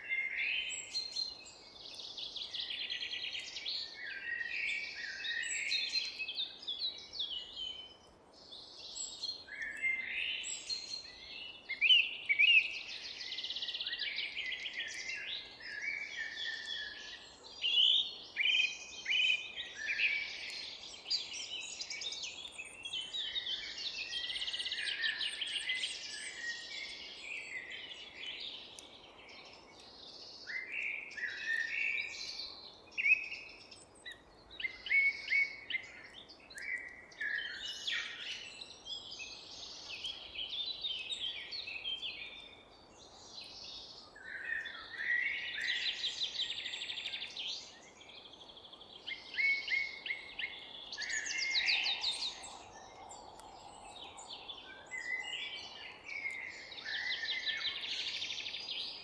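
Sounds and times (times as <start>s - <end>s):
forest birds singing: 0.0s - 59.0s.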